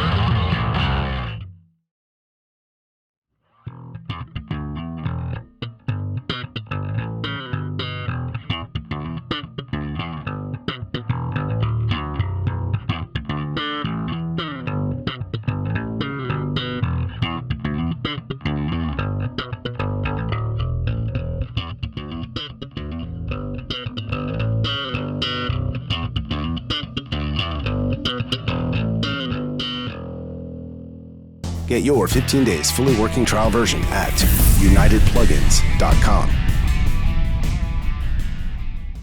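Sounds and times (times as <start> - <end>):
electric bass guitar plucked notes: 0.0 - 1.5, 3.7 - 39.0.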